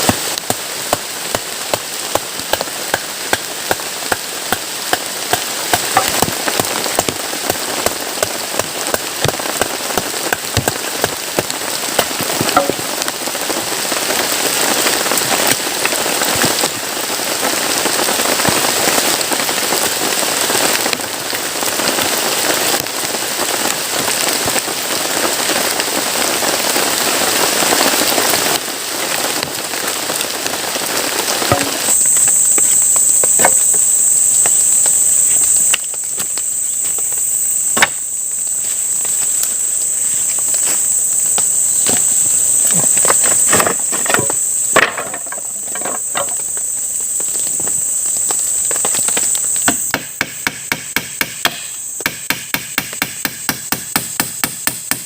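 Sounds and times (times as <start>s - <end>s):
heavy rain pouring: 0.0s - 52.0s
high-pitched insect chorus: 0.0s - 55.0s.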